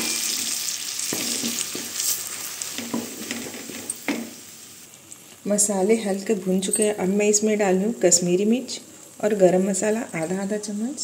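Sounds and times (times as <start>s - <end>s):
spices sizzling in hot butter: 0.0s - 11.0s.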